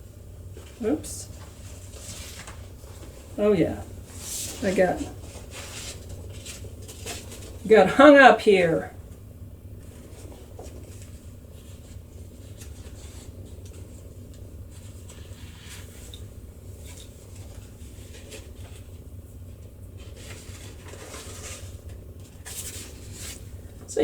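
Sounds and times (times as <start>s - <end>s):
paper rustling and scratching: 0.6s - 7.7s, 9.8s - 23.9s.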